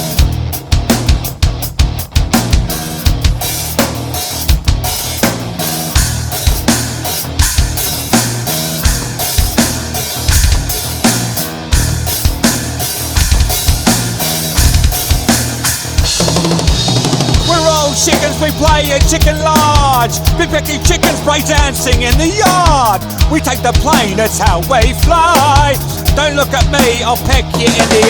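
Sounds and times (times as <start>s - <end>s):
bass guitar: 0.0s - 28.0s
drum kit beat: 0.0s - 28.0s
electric guitar: 0.0s - 28.0s.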